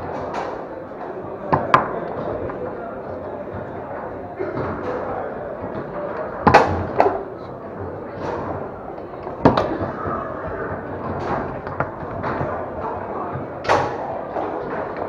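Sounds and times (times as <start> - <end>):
foosball clacks: 0.0 - 15.0
foosball rods knocking: 0.0 - 15.0
steady background noise: 0.0 - 15.0.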